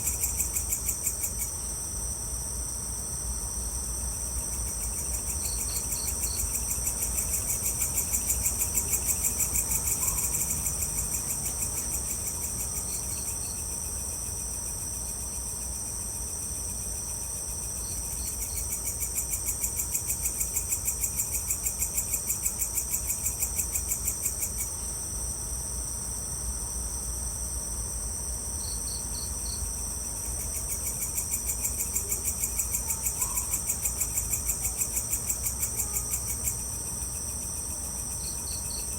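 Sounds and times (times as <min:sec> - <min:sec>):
cricket chirps: 0:00.0 - 0:38.9
high insect trill: 0:00.0 - 0:38.9
lower pulsing insect trill: 0:00.0 - 0:38.9.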